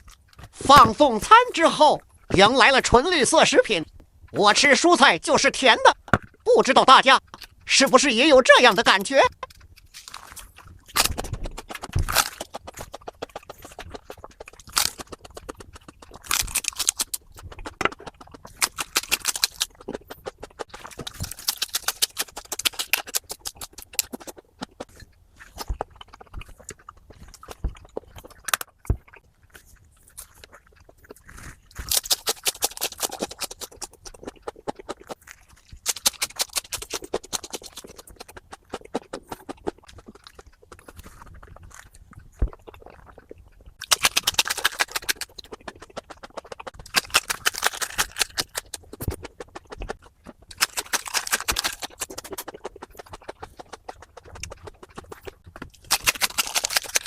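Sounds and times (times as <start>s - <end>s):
crunching raw vegetables: 0.0s - 57.0s.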